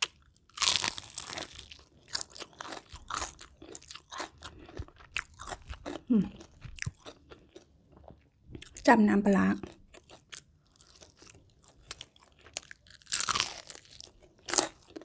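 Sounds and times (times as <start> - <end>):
person chewing crunchy food: 0.0 - 8.9, 9.6 - 15.0.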